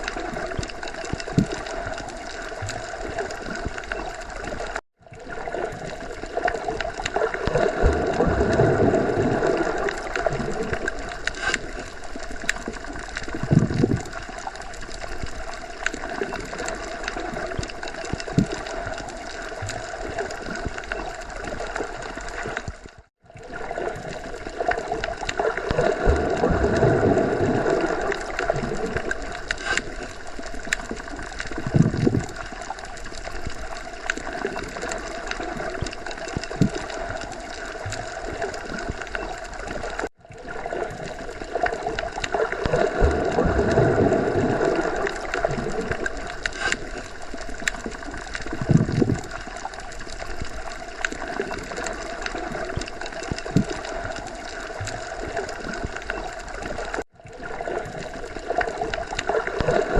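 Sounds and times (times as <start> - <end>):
low bubbling swells: 0.0 - 59.9.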